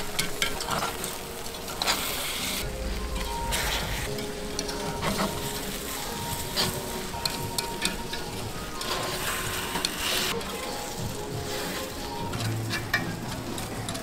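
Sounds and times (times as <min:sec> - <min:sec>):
batter balls sizzling on a griddle: 0:00.0 - 0:14.0.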